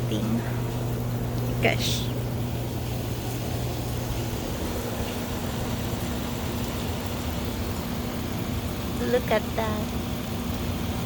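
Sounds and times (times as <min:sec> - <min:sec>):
low steady hum: 0:00.0 - 0:11.0
wind: 0:00.1 - 0:11.0.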